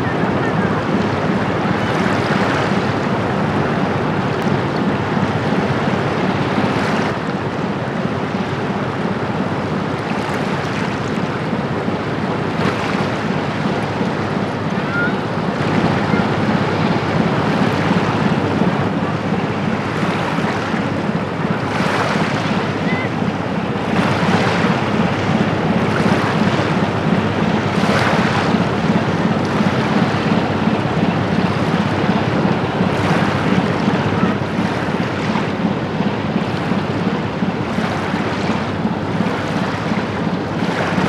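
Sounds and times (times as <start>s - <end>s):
river water over stones: 0.0s - 41.0s
ship diesel engine drone: 0.0s - 41.0s.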